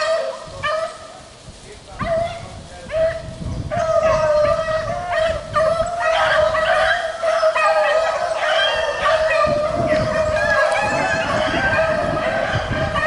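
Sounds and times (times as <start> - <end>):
hounds baying: 2.0 - 13.0.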